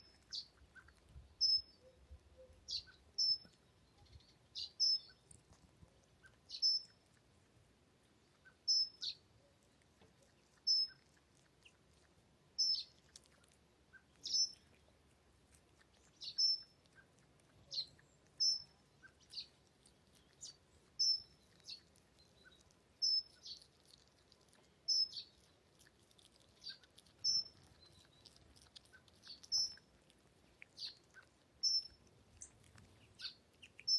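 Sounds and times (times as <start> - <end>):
bird chirping: 0.0 - 5.6, 6.2 - 7.2, 8.1 - 11.9, 12.6 - 15.0, 15.8 - 33.9.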